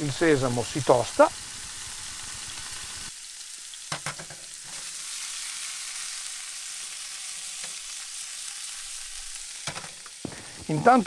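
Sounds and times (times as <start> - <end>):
fish frying in a pan: 0.0 - 11.0.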